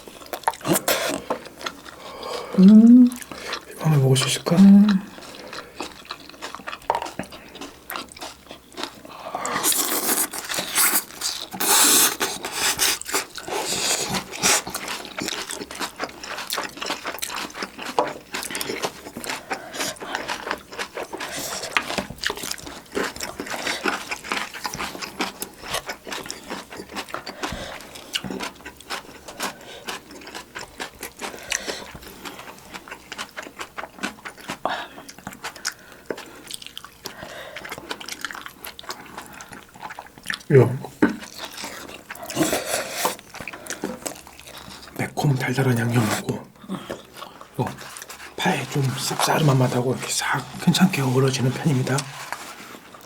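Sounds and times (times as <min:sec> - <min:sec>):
chewing: 0:00.1 - 0:03.8, 0:04.4 - 0:53.0.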